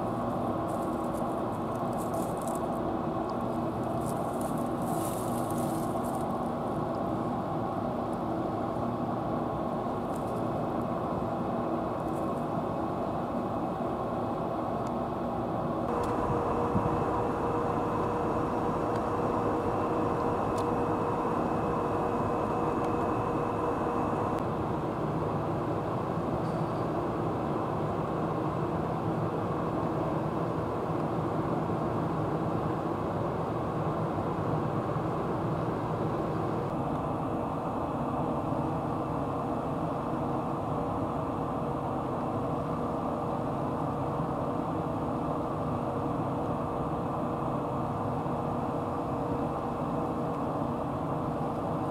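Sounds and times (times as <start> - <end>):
faint steady hum: 0.0 - 51.9
low rumbling background noise: 0.0 - 51.9.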